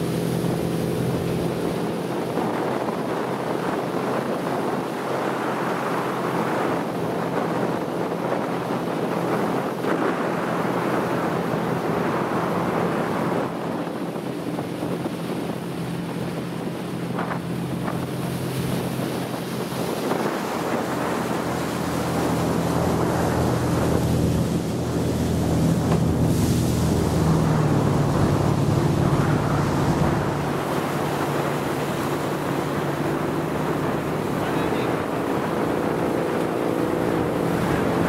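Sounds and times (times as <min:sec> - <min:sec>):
motorboat engine running: 0:00.0 - 0:38.0
water rushing past hull: 0:00.0 - 0:38.0
wind buffeting microphone: 0:00.0 - 0:38.0.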